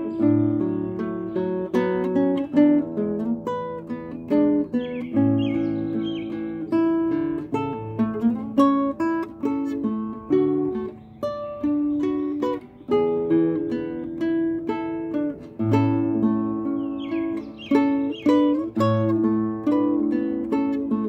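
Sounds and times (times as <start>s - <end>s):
fingerpicked classical guitar: 0.0s - 21.0s.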